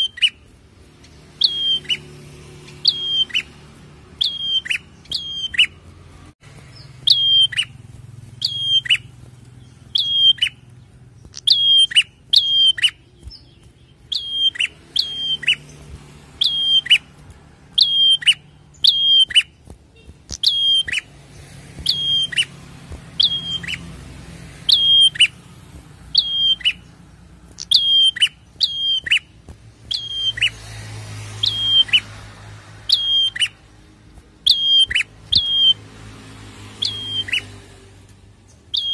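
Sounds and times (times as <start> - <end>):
bird calling sharp notes: 0.0 - 35.8, 36.7 - 37.7, 38.5 - 38.9.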